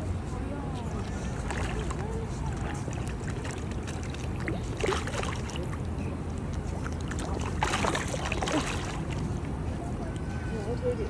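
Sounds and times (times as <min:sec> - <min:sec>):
faint voices: 0:00.0 - 0:06.8, 0:08.2 - 0:11.0
low outdoor rumble: 0:00.0 - 0:11.0.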